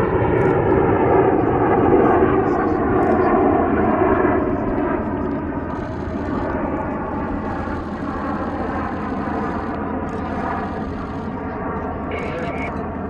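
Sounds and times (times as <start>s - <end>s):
jets passing overhead: 0.0s - 13.0s.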